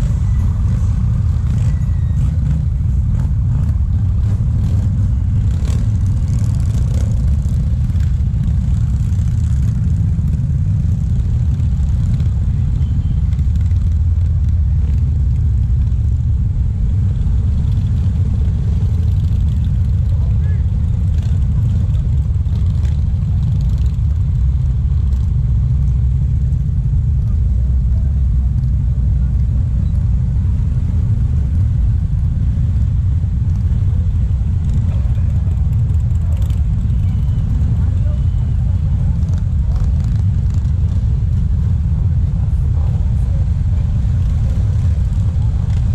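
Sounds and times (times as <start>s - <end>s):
motorcycle engines rumbling: 0.0s - 45.9s.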